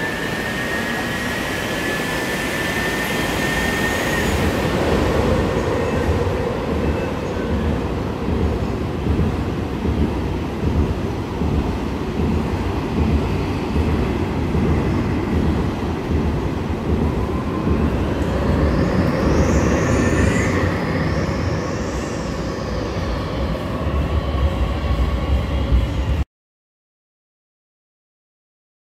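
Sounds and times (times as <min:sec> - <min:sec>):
train wheels rumbling on rail: 0:00.0 - 0:26.2.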